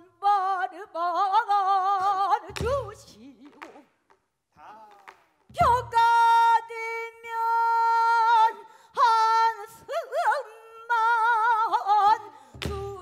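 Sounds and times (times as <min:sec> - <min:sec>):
woman singing with vibrato: 0:00.0 - 0:03.8, 0:05.5 - 0:13.0.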